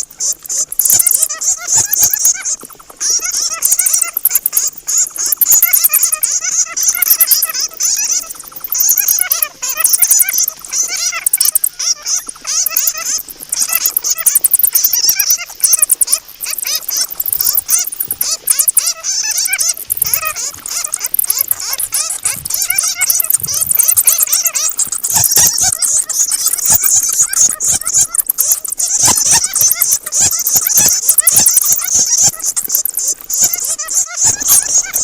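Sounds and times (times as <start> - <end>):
bats squeaking and chattering: 0.0 - 35.0
fast thin ticking: 0.0 - 35.0.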